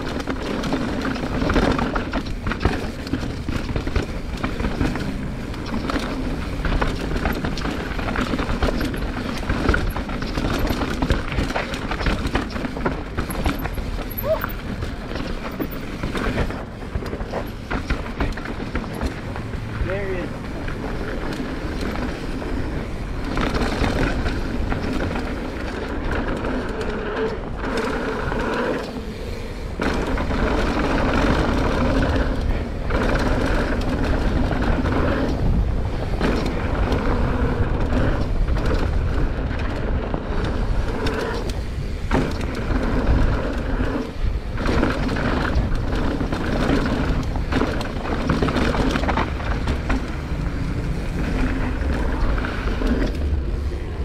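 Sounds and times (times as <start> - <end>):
rush of wind: 0.0 - 54.0
tyre rumble over loose dirt: 0.0 - 54.0.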